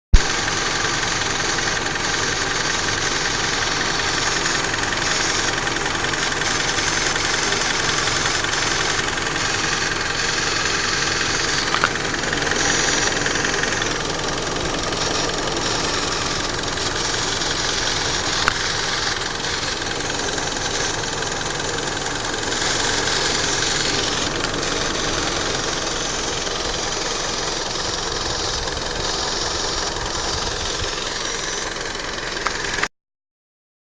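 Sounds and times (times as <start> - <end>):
car engine idling: 0.1 - 32.9.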